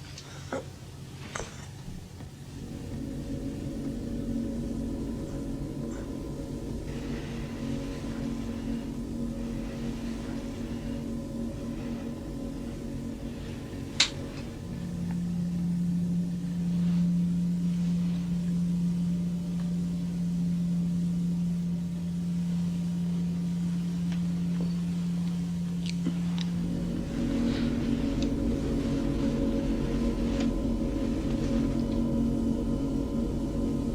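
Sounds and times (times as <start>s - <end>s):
steady low hum: 0.0s - 33.9s
deep single-pitch drone: 2.3s - 33.9s.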